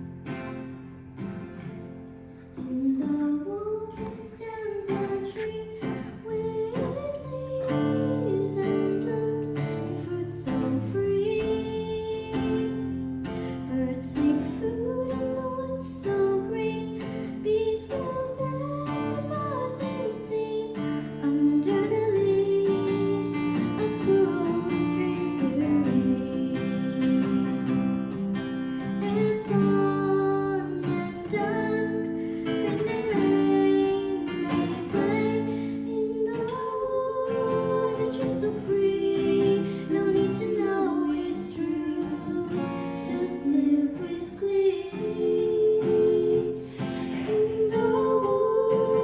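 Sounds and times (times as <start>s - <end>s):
strummed acoustic guitar: 0.0s - 49.0s
woman singing folk song: 0.0s - 49.0s.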